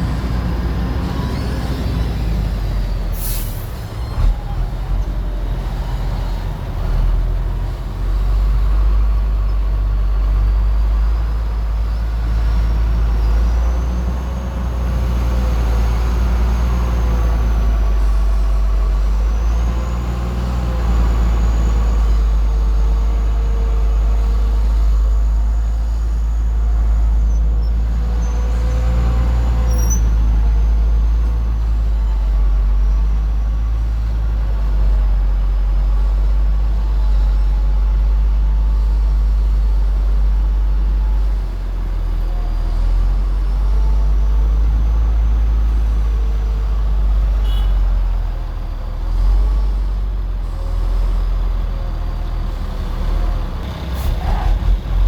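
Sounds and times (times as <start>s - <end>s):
bulldozer diesel engine rumble: 0.0s - 55.0s.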